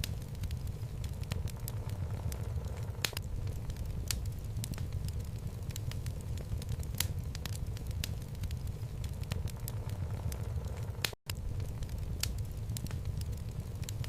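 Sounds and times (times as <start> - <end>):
burning logs crackling and popping: 0.0 - 14.0
fire flames rumbling: 0.0 - 14.0.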